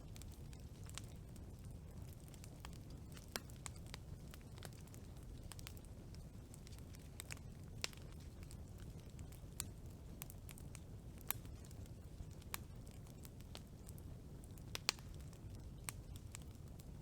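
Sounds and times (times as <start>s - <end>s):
campfire flame rumble: 0.0s - 17.0s
fire crackles and pops: 0.0s - 17.0s.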